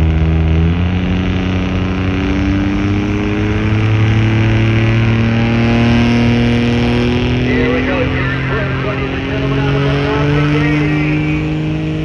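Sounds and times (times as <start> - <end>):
truck engine running under load: 0.0 - 12.0.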